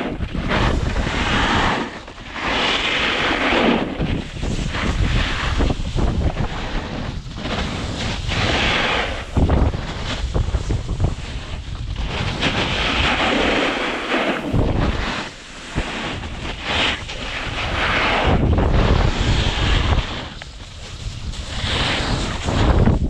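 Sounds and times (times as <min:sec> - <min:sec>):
wind buffeting microphone: 0:00.0 - 0:02.4, 0:03.2 - 0:23.0.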